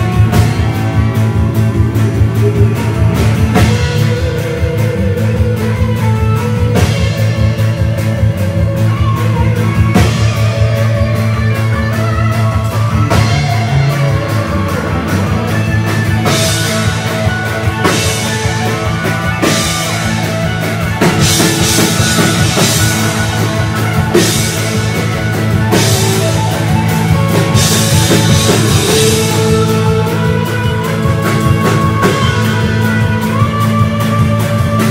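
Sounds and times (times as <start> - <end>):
live rock band playing: 0.0 - 34.9.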